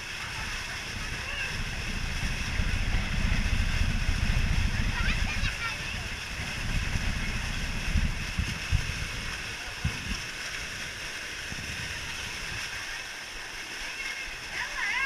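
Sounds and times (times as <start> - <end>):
low rumble with thumps: 0.0 - 12.8
water churning and rushing: 0.0 - 15.0.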